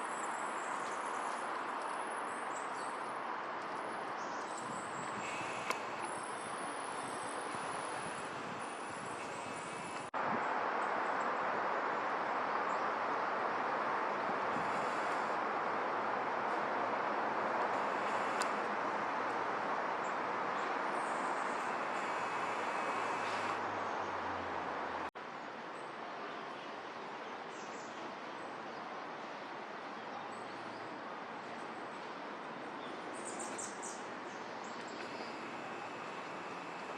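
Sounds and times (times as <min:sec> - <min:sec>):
outdoor background hiss: 0:00.0 - 0:36.9.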